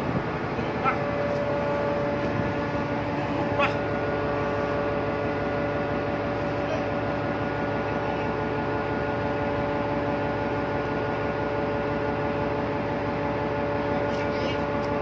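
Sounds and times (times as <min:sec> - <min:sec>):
ship machinery drone: 0:00.0 - 0:15.0.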